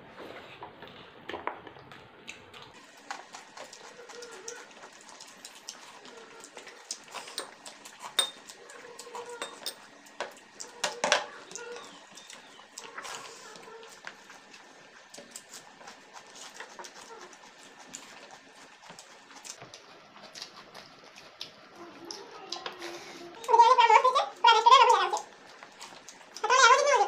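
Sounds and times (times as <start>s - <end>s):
people eating by hand: 0.0s - 27.0s.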